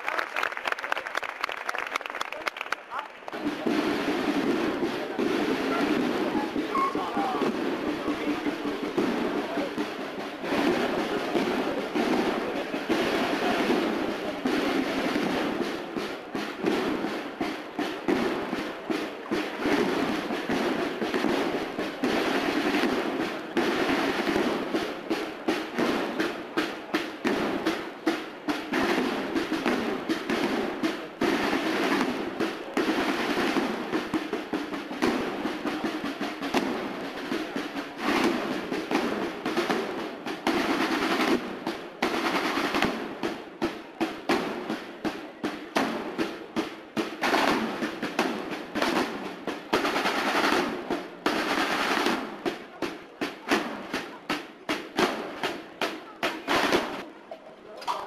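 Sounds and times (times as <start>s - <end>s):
snare drum rolls: 2.4s - 58.0s.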